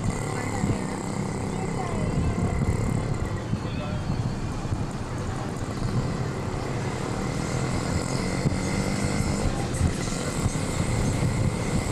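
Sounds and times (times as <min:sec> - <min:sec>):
road traffic noise: 0:00.0 - 0:11.9.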